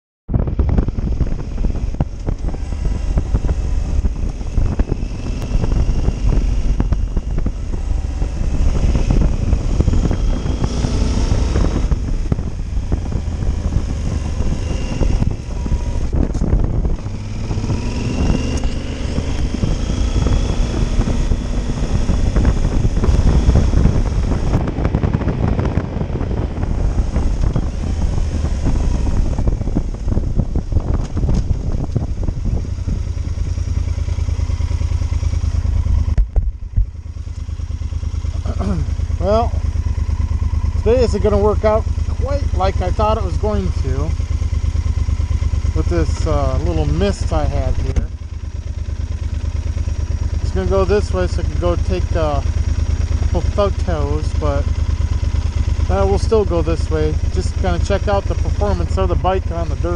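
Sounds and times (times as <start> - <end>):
motorcycle engine running: 0.3 - 59.9
wind and road noise: 0.3 - 59.9.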